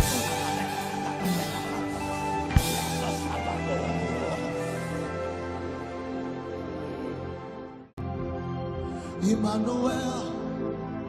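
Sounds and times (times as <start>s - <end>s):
soft worship music: 0.0s - 11.0s.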